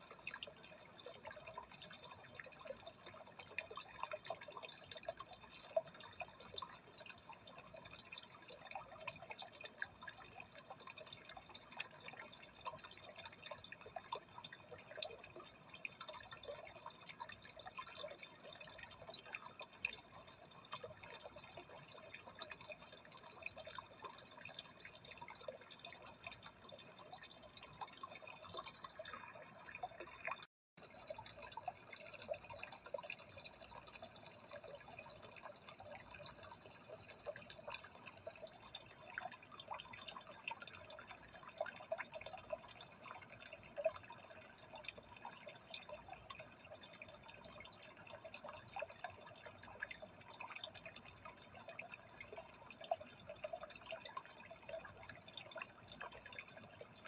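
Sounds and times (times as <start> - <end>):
aquarium water trickling and dripping: 0.0 - 57.0.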